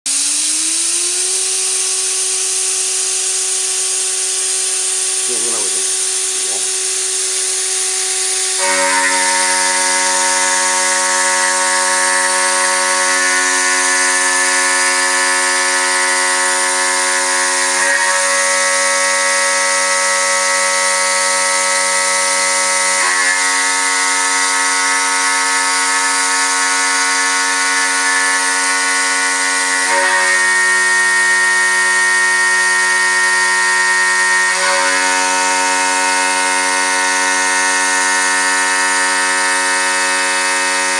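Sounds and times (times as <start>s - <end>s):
router spindle whining: 0.1s - 40.9s.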